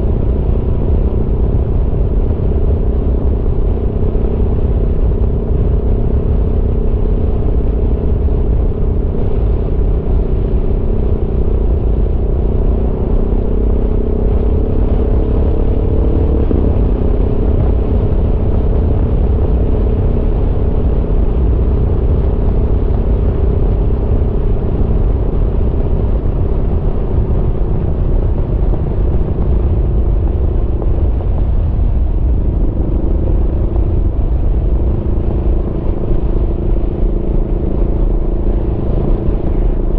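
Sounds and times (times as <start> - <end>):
heavy low rumble: 0.0 - 39.9.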